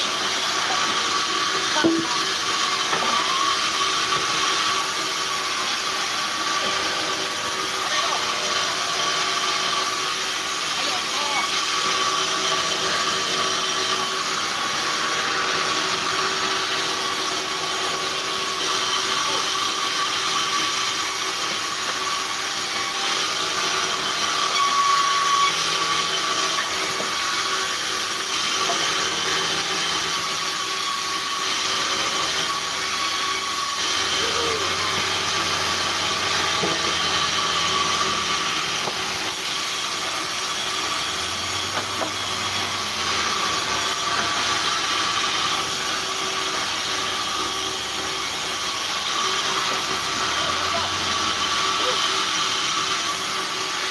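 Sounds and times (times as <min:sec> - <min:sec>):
band saw whining: 0:00.0 - 0:53.9
saw blade cutting timber: 0:00.0 - 0:53.9.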